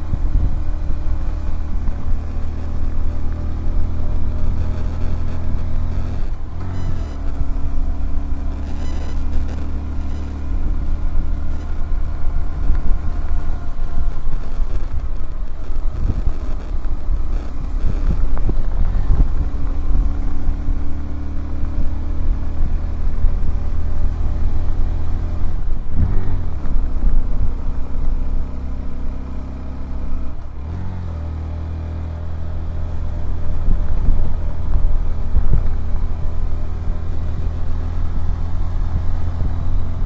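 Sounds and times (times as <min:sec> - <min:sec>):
motorcycle engine running: 0:00.0 - 0:40.0
wind rumble on microphone: 0:00.0 - 0:40.0.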